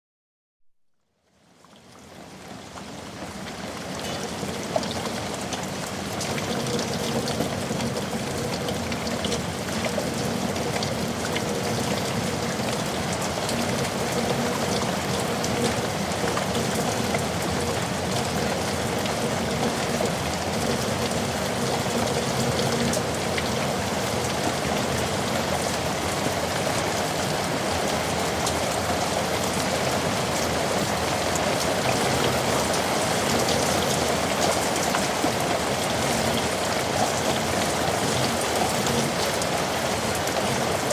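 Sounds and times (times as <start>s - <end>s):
heavy rain pattering: 1.6s - 40.9s.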